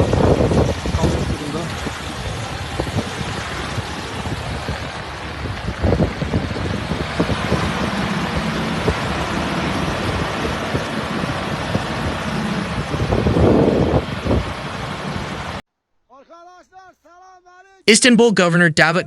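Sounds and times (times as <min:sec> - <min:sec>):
vehicle engine running: 0:00.0 - 0:15.6
wind and road noise: 0:00.0 - 0:15.6.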